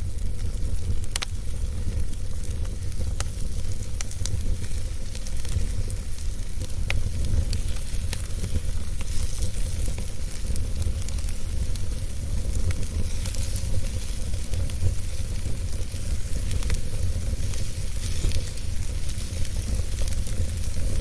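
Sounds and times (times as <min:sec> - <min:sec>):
fire crackling and popping: 0:00.0 - 0:21.0
fire rumble and hiss: 0:00.0 - 0:21.0.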